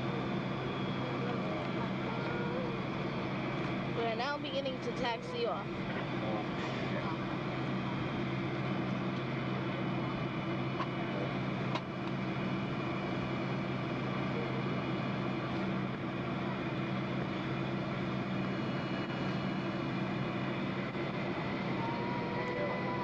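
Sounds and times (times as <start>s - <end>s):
jet engines humming: 0.0s - 23.0s.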